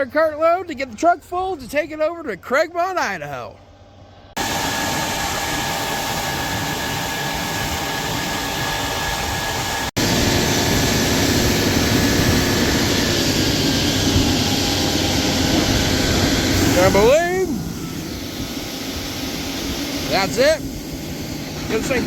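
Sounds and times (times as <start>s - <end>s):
diesel farm machinery running: 0.0s - 22.0s.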